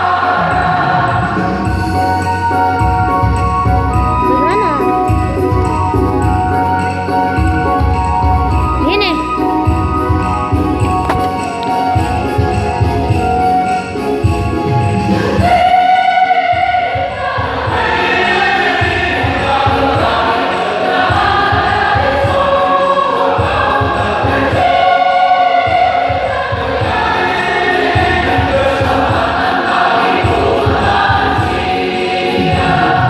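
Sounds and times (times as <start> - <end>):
church choir singing: 0.0 - 8.8, 9.5 - 33.0.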